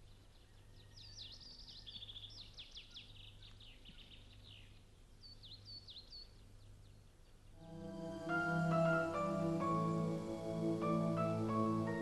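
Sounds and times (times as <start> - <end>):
birdsong chirps and trills: 0.0 - 12.0.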